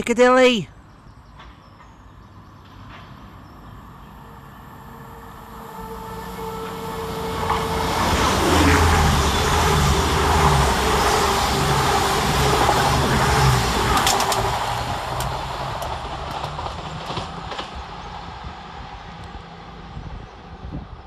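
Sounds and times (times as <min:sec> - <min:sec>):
diesel train engine hum: 0:00.7 - 0:21.0
wheel-on-rail noise: 0:01.2 - 0:21.0.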